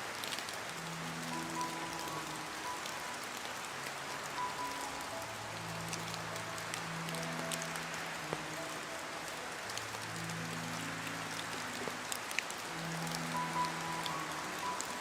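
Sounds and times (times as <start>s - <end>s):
soft slow background music: 0.0s - 15.0s
steady rain falling: 0.0s - 15.0s.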